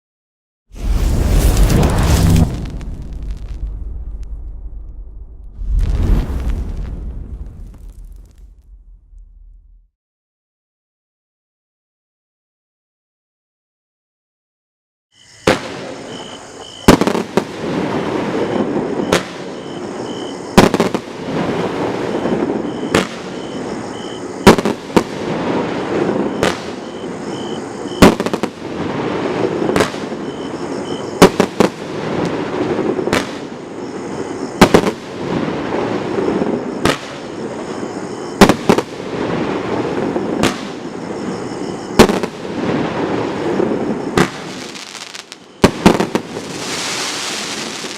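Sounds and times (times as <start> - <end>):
firework hissing: 0.8 - 4.3, 5.6 - 8.6, 15.3 - 47.9
firework bangs: 0.8 - 9.8, 15.4 - 47.9.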